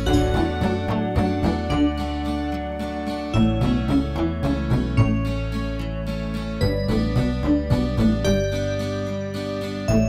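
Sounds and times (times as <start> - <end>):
plucked notes over held chords: 0.0 - 10.0.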